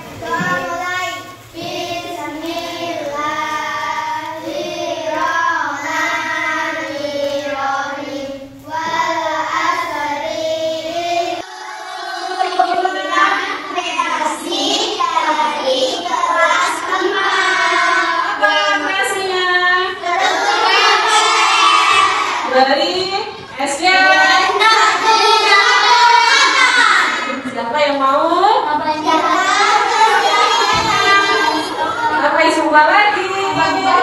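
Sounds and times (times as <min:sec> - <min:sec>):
children singing in unison: 0:00.0 - 0:18.9, 0:19.9 - 0:22.6, 0:23.9 - 0:27.5, 0:28.9 - 0:32.4, 0:33.4 - 0:34.0.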